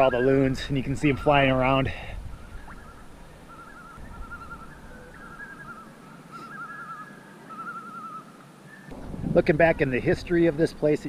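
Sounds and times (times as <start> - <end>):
loons tremolo calls: 0.0 - 9.0.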